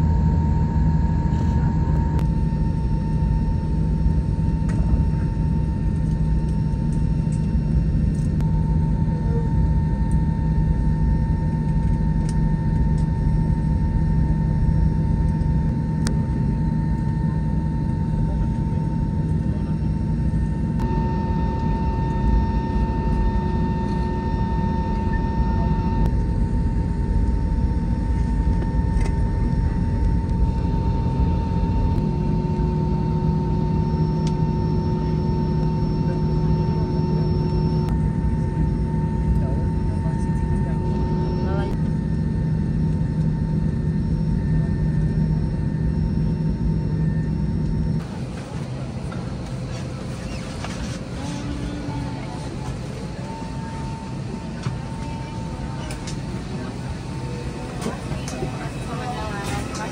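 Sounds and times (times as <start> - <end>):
aircraft engines droning: 0.0 - 59.9
thin steady whine: 0.0 - 59.9.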